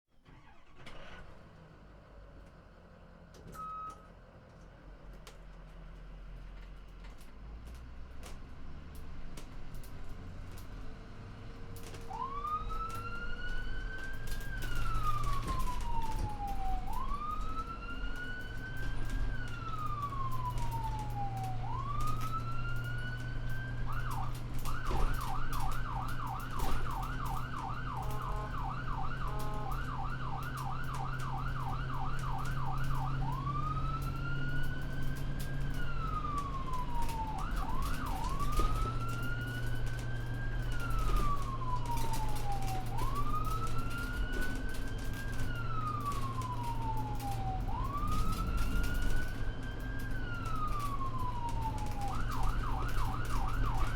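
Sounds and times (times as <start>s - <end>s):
low vehicle hum: 0.1s - 53.9s
ambulance siren: 0.3s - 1.2s, 3.4s - 4.1s, 11.7s - 53.9s.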